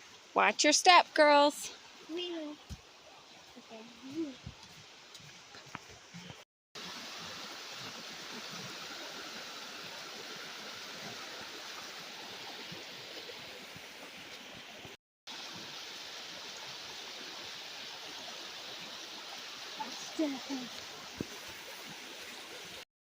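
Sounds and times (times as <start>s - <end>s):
flowing water rushing: 0.0s - 22.9s.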